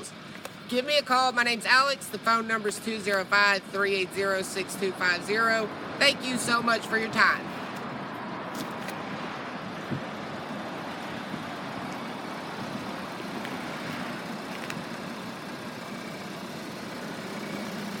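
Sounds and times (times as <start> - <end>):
motor vehicle hum: 0.0 - 18.0.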